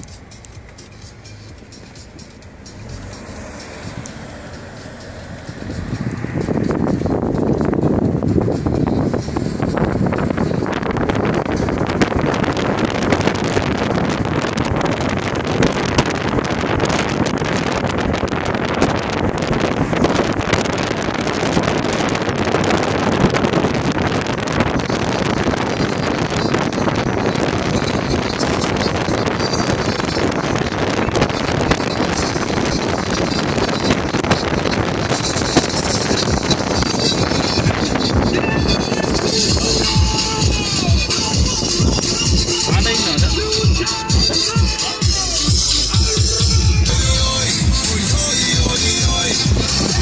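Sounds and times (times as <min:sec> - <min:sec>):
road and tyre noise: 0:00.0 - 0:50.0
wind buffeting microphone: 0:02.5 - 0:50.0.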